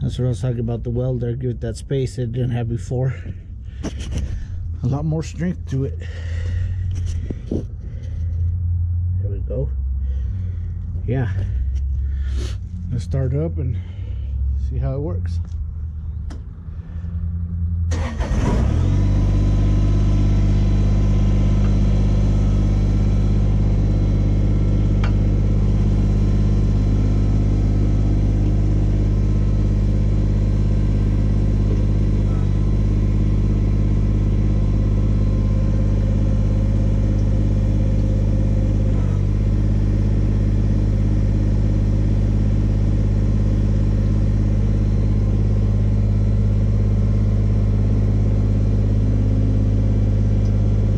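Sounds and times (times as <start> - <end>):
tractor diesel engine: 0.0 - 50.9.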